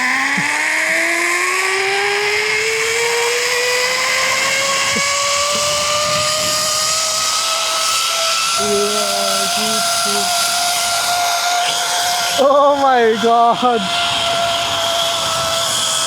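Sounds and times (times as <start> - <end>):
zip line pulleys whining: 0.0 - 16.0.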